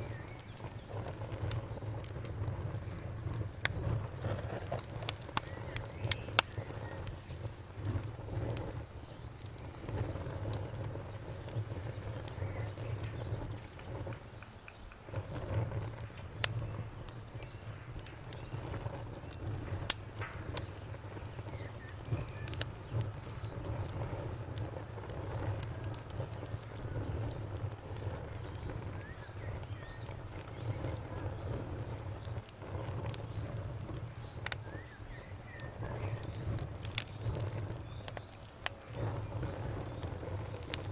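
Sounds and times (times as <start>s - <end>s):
campfire crackling and popping: 0.0s - 40.9s
low rumble of flames: 0.0s - 40.9s.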